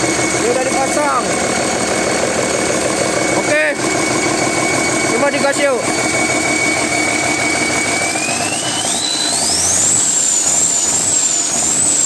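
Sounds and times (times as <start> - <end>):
diesel engine revving: 0.0 - 12.0
turbocharger whine: 0.0 - 12.0.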